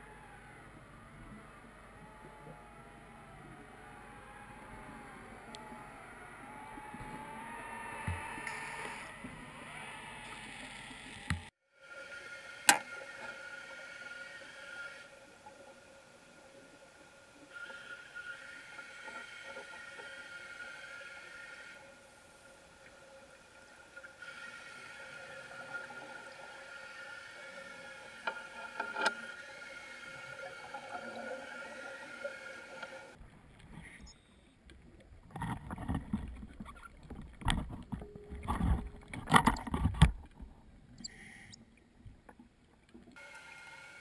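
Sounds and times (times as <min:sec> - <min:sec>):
steady underwater hum: 0:00.0 - 0:44.0.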